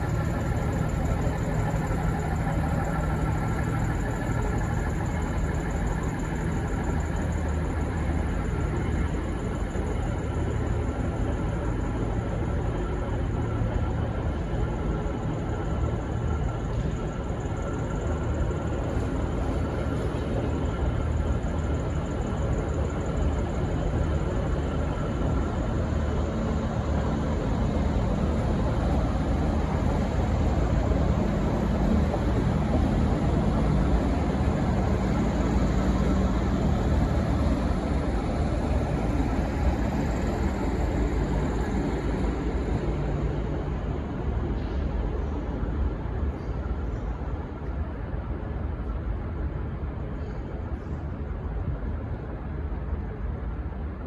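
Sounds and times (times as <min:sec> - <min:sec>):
diesel locomotive rumbling: 0:00.0 - 0:13.7, 0:16.6 - 0:53.9
faint steady tones: 0:00.0 - 0:44.3.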